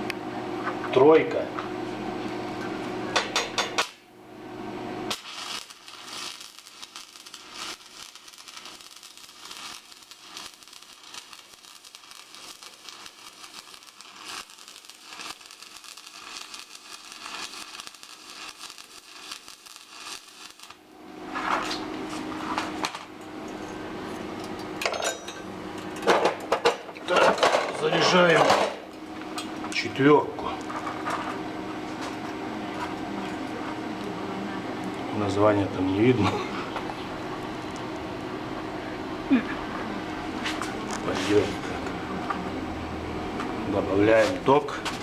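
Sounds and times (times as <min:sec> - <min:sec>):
welding arc crackling and hissing: 0:02.8 - 0:45.0.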